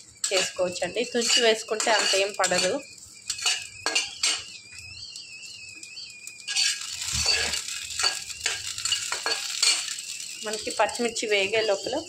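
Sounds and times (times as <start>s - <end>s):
chillies frying in hot oil: 0.0s - 12.0s
spatula scraping a pan: 0.2s - 4.5s, 6.4s - 12.0s.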